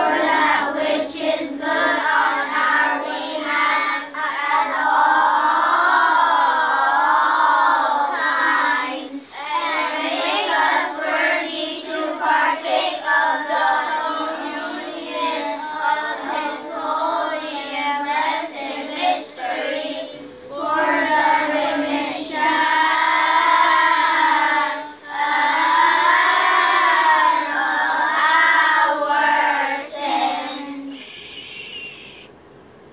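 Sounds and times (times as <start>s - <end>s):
children singing a hymn: 0.0s - 32.3s.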